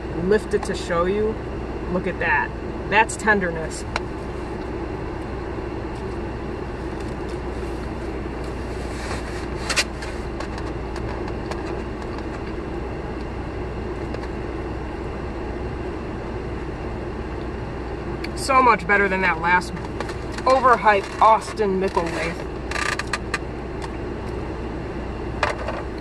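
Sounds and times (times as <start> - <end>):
car engine humming: 0.0 - 26.0.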